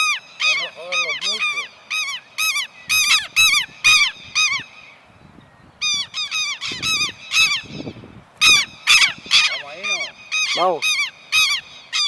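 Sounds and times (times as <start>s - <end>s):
lapwings calling in alarm: 0.0s - 12.0s.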